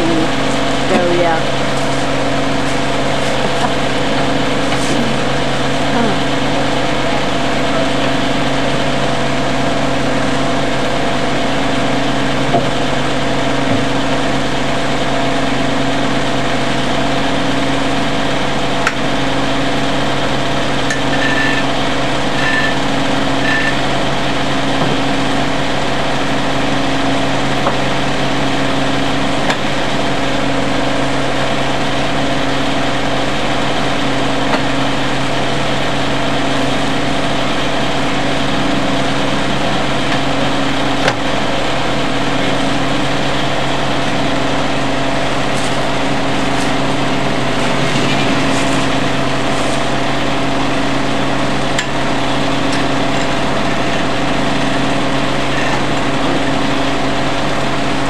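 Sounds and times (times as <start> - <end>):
sawmill machinery hum: 0.0 - 58.0.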